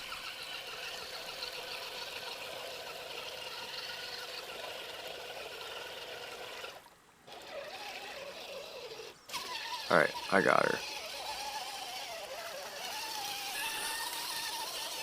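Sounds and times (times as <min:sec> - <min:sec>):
electric motor and gears whining: 0:00.0 - 0:15.0
tyres churning through mud: 0:00.0 - 0:15.0.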